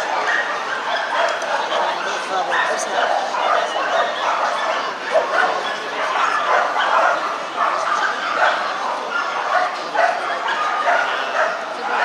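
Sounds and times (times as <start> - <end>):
dogs barking and yipping: 0.0 - 12.0
murmur of crowd voices: 0.0 - 12.0.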